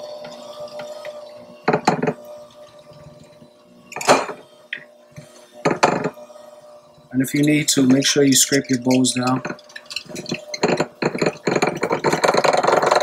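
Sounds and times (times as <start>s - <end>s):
beaters clattering against bowl: 0.0s - 4.9s, 5.6s - 6.2s, 7.2s - 13.0s
electric hand mixer running: 0.0s - 8.3s, 9.2s - 13.0s.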